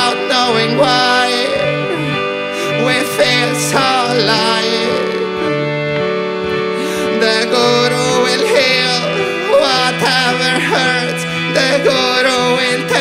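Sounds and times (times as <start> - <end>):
person singing ornamented lines: 0.0 - 5.8, 6.8 - 13.0
sustained instrumental accompaniment: 0.0 - 13.0.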